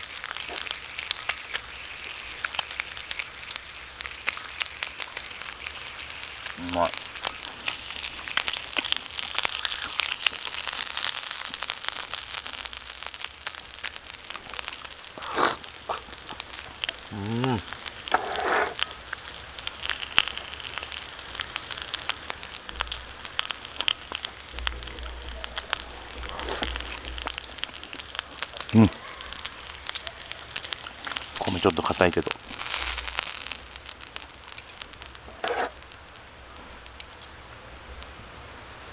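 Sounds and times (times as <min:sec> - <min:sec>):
meat sizzling on griddle: 0:00.0 - 0:38.9.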